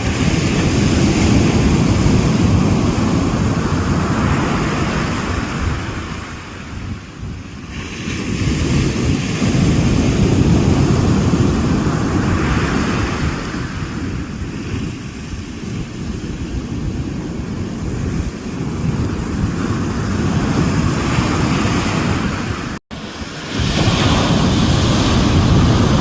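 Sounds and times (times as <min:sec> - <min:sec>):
water hissing wash: 0:00.0 - 0:26.0
waves breaking: 0:00.0 - 0:26.0
wind rumbling on microphone: 0:00.0 - 0:26.0.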